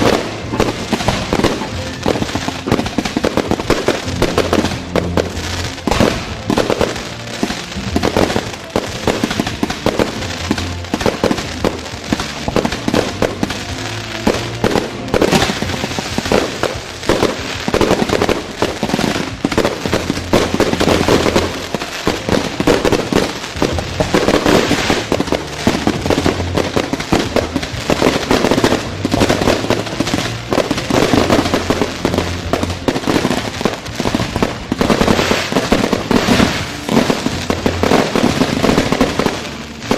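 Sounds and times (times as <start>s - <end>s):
background music with bass: 0.0s - 39.9s
fireworks banging and crackling: 0.0s - 39.9s.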